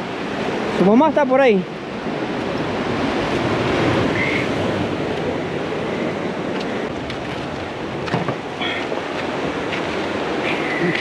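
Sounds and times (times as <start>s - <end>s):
surf washing against rocks: 0.0s - 11.0s
wind on microphone: 0.0s - 11.0s.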